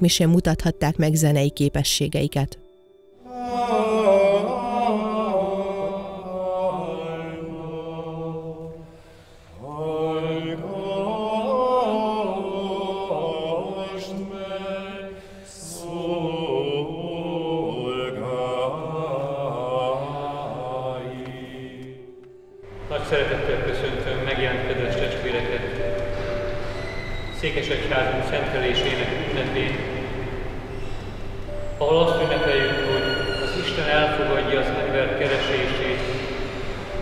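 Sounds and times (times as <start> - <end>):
choir singing a chant: 3.2 - 30.8, 31.5 - 37.0.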